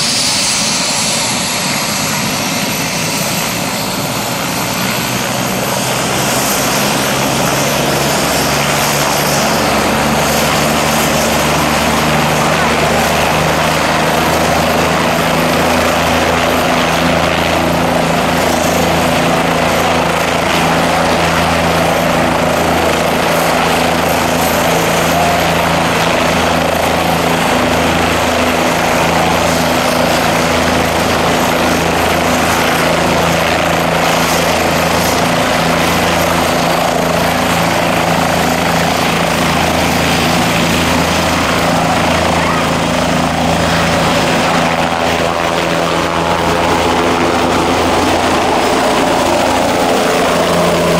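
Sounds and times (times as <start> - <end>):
helicopter rotor throb: 0.0 - 50.9
helicopter turbine whine: 0.0 - 50.9.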